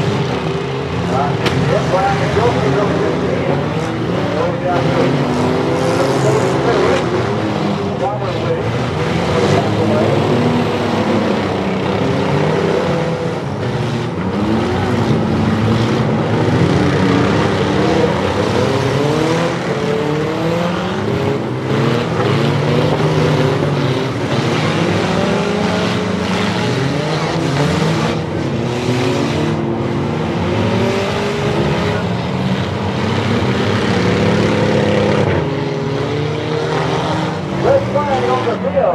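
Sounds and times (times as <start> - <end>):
car engines revving: 0.0 - 38.9
crowd noise: 0.0 - 38.9.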